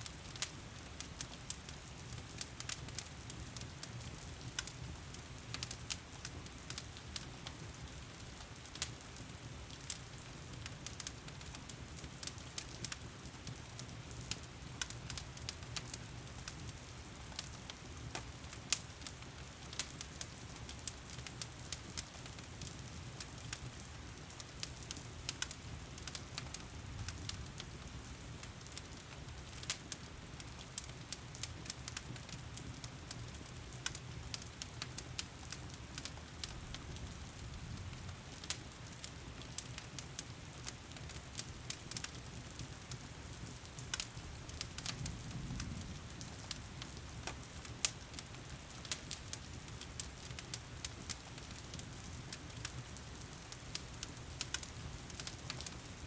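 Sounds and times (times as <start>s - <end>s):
fireplace crackling and popping: 0.0s - 56.0s.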